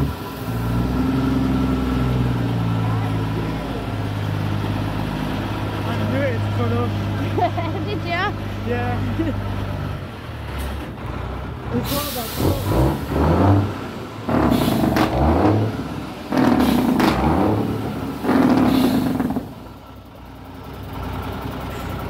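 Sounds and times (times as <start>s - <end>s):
lorry diesel engine revving: 0.0s - 22.0s.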